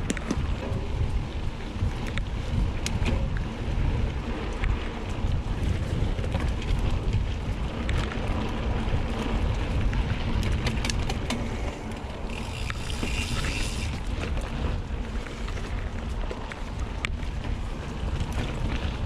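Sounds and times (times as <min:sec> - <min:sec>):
bike rattling over bumps: 0:00.0 - 0:19.0
bike tyres rumbling on gravel: 0:00.0 - 0:19.0
wind buffeting microphone: 0:00.0 - 0:19.0.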